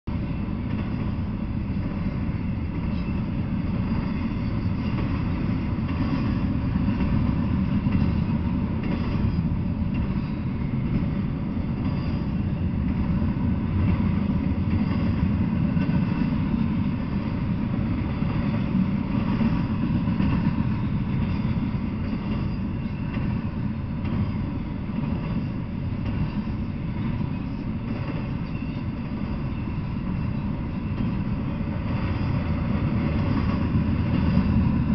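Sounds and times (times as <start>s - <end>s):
freight train rumbling past: 0.1s - 34.9s.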